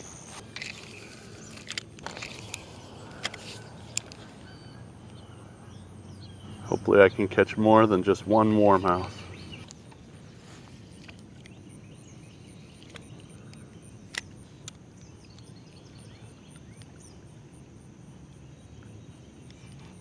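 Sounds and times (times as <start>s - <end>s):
insect chirping in pulses: 0.0s - 20.0s.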